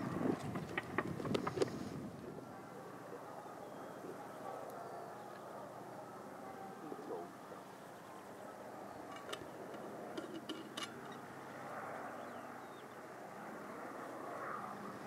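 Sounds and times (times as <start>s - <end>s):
distant propeller aircraft drone: 0.0s - 15.0s.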